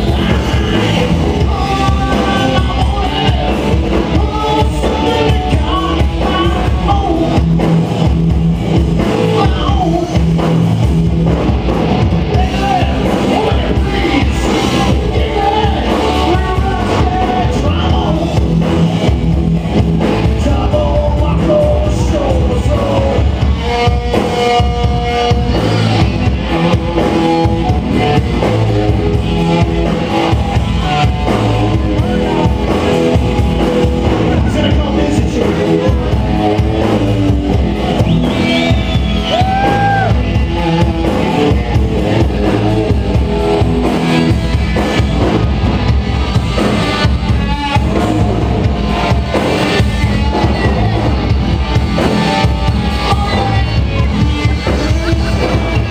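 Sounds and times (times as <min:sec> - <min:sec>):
bass guitar: 0:00.0 - 0:55.9
drum kit: 0:00.0 - 0:55.9
electric guitar: 0:00.0 - 0:55.9.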